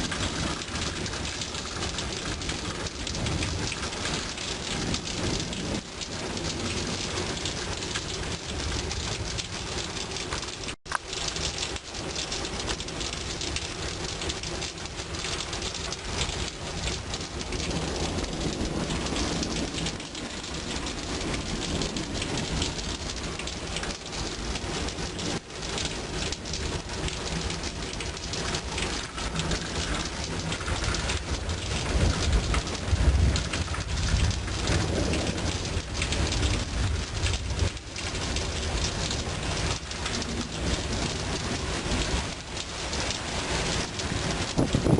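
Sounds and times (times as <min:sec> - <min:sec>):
heavy rain falling: 0:00.0 - 0:44.9
low thunder rumbling: 0:00.0 - 0:44.9.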